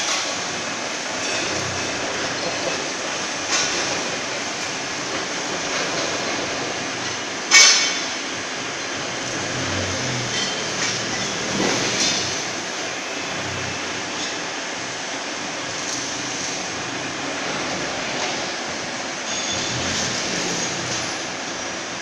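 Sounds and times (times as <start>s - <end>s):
machine shop din: 0.0s - 22.0s.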